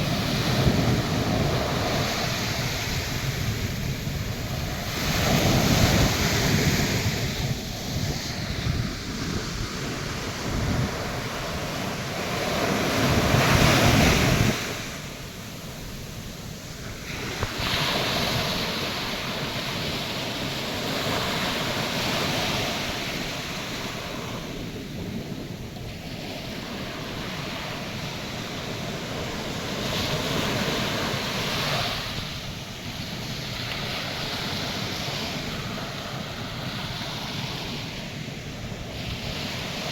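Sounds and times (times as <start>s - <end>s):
surf breaking on beach: 0.0s - 39.9s
wind buffeting microphone: 0.0s - 39.9s.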